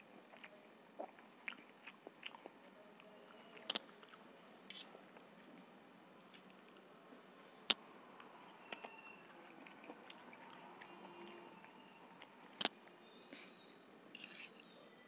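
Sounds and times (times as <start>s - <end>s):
faint eating ticks: 0.0s - 15.0s.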